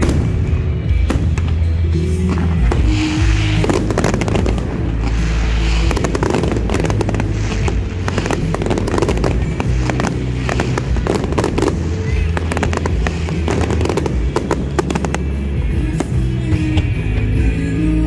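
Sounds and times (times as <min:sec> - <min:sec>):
fireworks cracks and bangs: 0:00.0 - 0:18.0.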